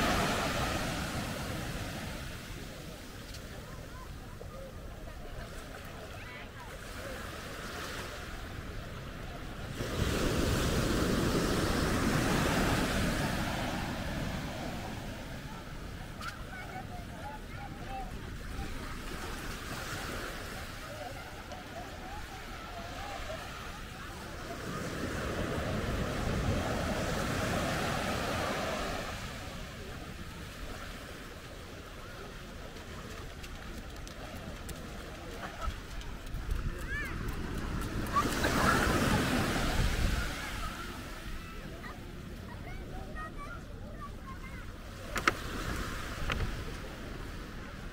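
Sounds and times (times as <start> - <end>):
surf breaking on sandy beach: 0.0 - 4.2, 5.3 - 47.9.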